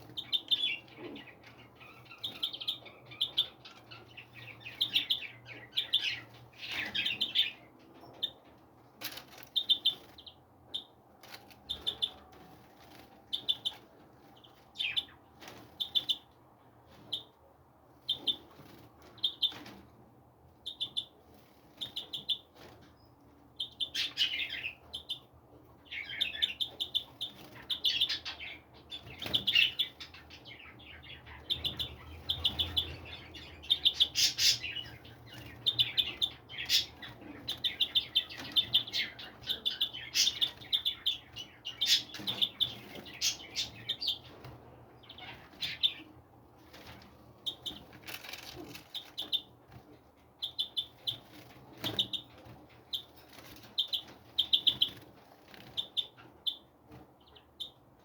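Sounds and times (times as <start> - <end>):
small birds chirping: 0.0 - 19.9, 20.5 - 58.0.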